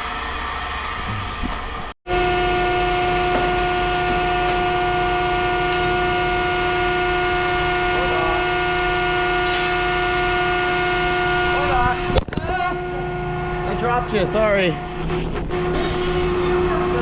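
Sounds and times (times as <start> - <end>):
machine hum with whine: 0.0 - 17.0.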